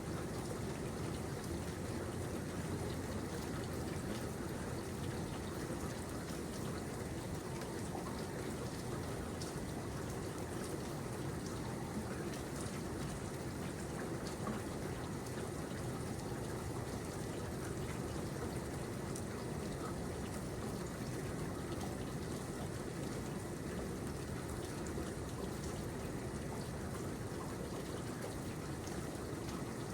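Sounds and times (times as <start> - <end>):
faint raindrop ticks: 0.2 - 29.9.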